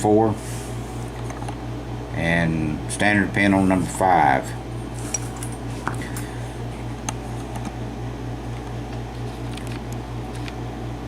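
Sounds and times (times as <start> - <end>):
pulsing low machine hum: 0.0 - 11.0.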